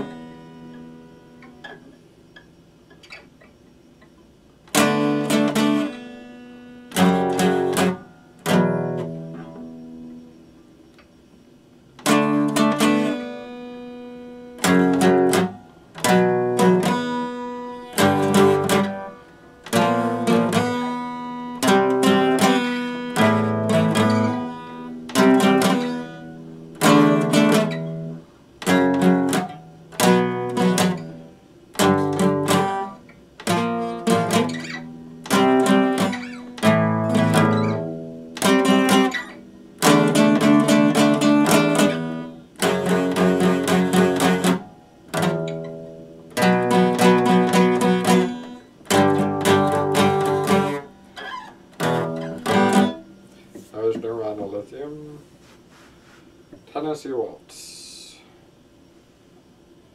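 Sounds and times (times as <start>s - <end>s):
acoustic guitar strummed: 0.0s - 55.2s.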